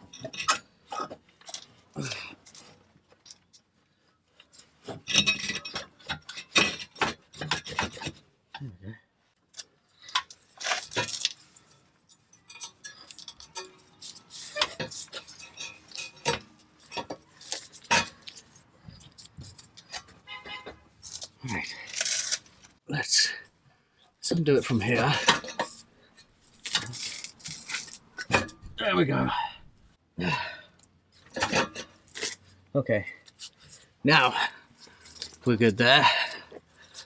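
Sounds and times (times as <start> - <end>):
metal tools clinking and scraping: 0.0 - 3.7, 4.3 - 8.3, 9.5 - 22.8, 24.5 - 28.8, 30.8 - 37.0.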